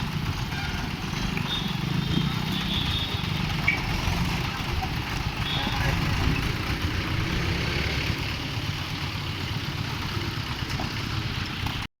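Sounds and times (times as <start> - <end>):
vehicle engines rumbling: 0.0 - 11.9.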